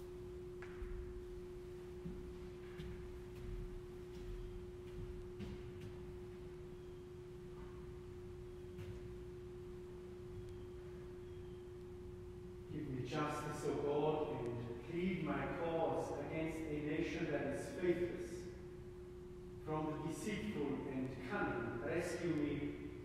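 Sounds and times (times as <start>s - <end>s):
steady pure tone hum: 0.0s - 23.0s.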